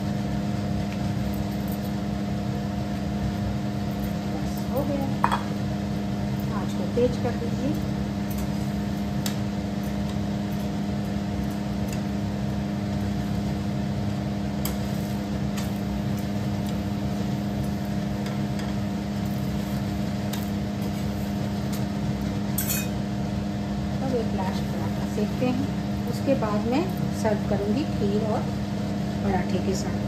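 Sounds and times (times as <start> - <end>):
mechanical fan hum: 0.0 - 30.0.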